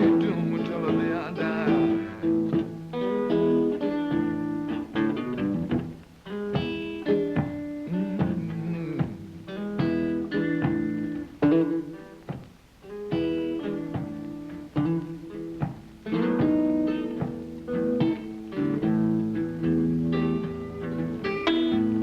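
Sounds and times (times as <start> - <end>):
acoustic blues guitar: 0.0 - 22.0.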